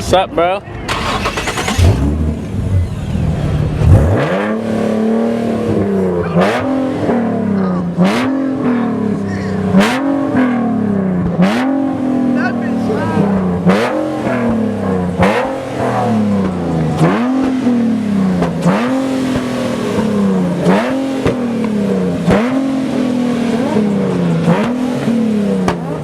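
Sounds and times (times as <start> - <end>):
car engine revving: 0.9 - 26.0.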